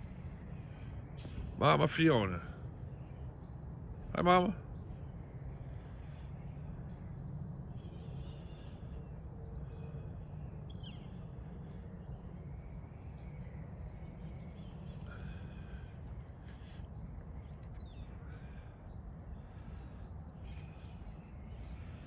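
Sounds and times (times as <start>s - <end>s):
faint bird chirps: 0.0s - 22.0s
low background rumble: 0.0s - 22.0s.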